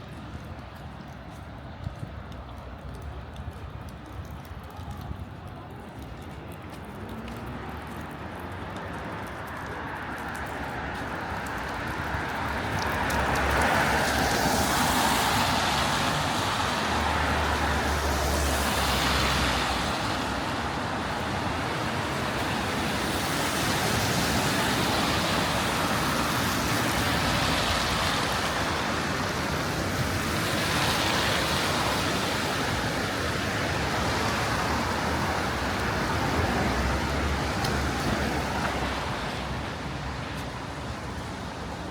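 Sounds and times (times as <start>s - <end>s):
tyres hissing on wet road: 7.0s - 41.9s.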